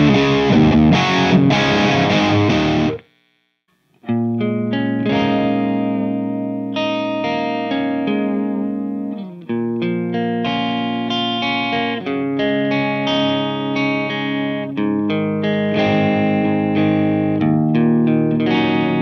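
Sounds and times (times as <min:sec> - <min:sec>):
clean electric guitar chords: 0:00.0 - 0:03.0, 0:04.0 - 0:19.0.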